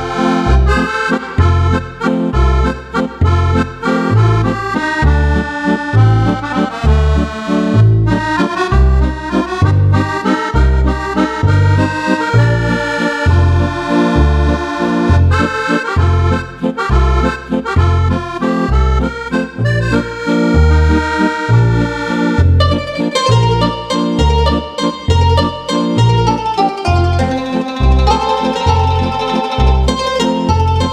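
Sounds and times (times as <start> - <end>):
accordion playing a tune: 0.0 - 30.9.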